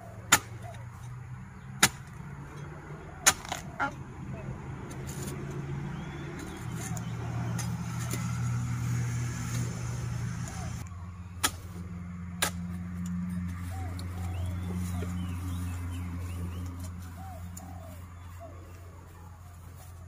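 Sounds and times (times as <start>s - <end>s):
small birds chirping: 0.0s - 12.0s, 13.1s - 20.0s
engine humming: 0.0s - 20.0s.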